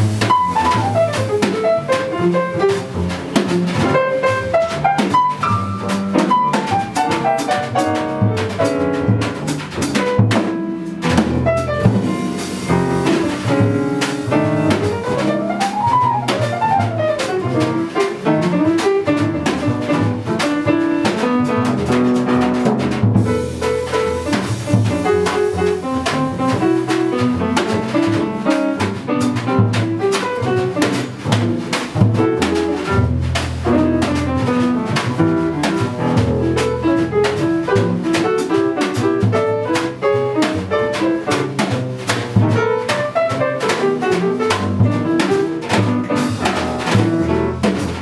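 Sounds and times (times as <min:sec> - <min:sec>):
drum kit with cymbals: 0:00.0 - 0:48.0
plucked double bass: 0:00.0 - 0:48.0.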